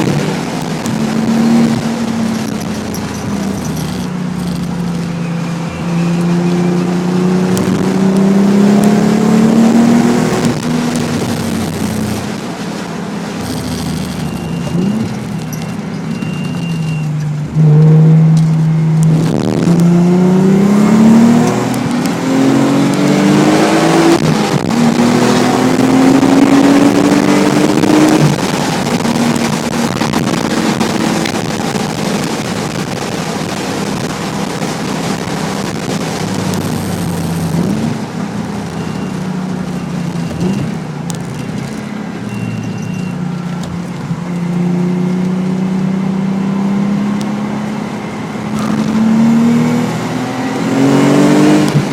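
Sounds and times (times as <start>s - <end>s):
car engine accelerating and upshifting: 0.0s - 51.9s.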